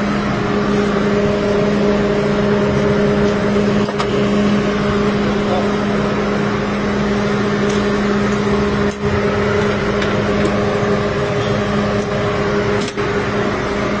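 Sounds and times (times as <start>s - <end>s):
machine hum with low drone: 0.0s - 14.0s.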